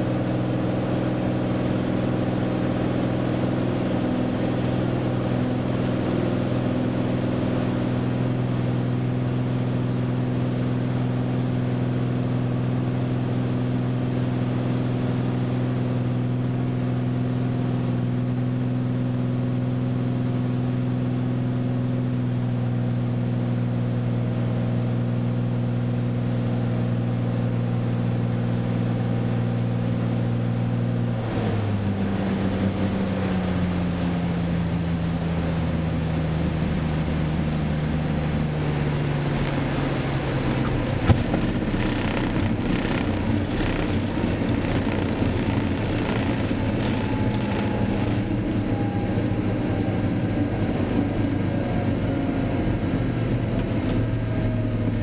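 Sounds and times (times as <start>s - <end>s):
propeller airplane engine droning: 0.0s - 55.0s
rough roar on runway: 0.0s - 55.0s.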